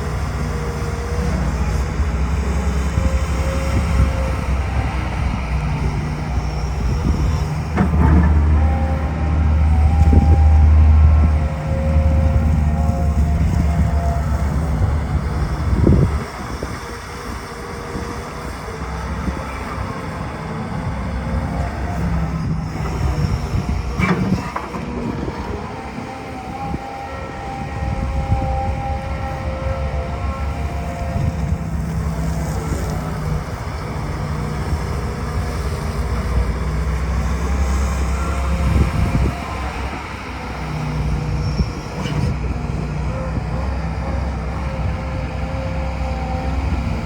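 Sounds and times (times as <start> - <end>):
excavator diesel engine hum: 0.0 - 47.0.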